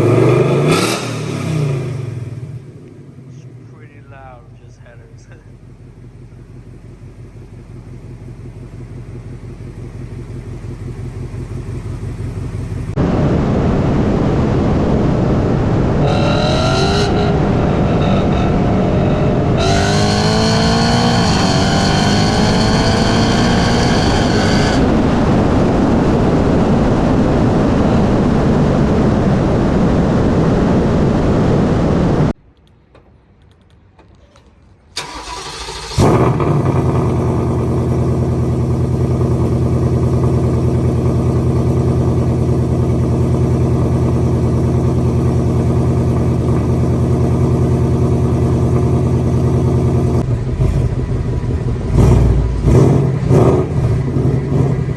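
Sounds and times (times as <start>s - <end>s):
car engine revving: 0.0s - 32.4s, 35.0s - 54.9s.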